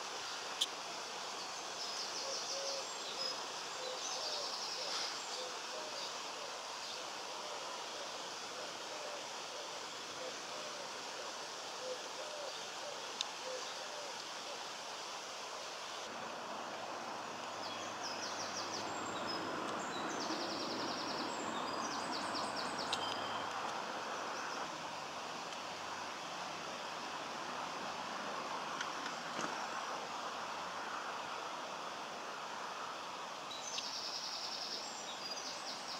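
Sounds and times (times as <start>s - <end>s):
outdoor background noise: 0.0s - 35.9s.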